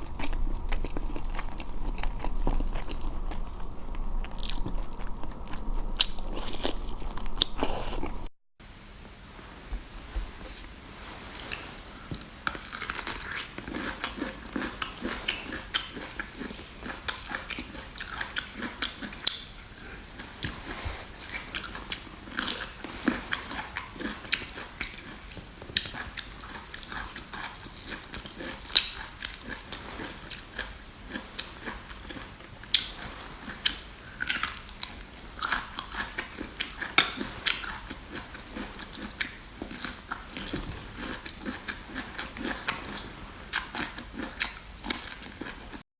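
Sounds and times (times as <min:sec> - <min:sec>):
chewing food: 0:00.0 - 0:08.3, 0:11.5 - 0:45.8.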